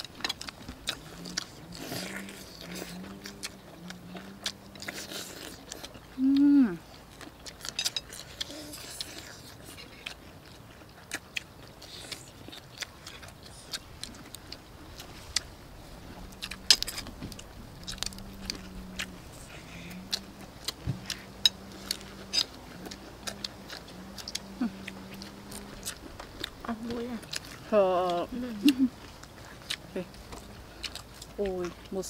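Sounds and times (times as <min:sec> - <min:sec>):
faint low hum: 0:00.0 - 0:32.0
lip smacks and chewing: 0:00.0 - 0:32.0.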